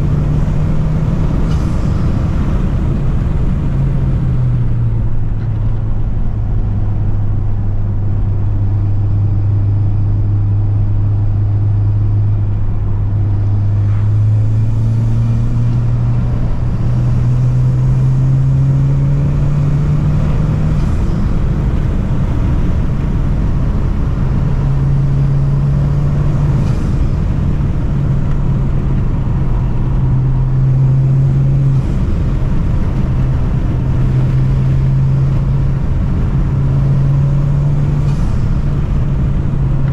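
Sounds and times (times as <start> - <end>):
car engine pulling under load: 0.0 - 39.9.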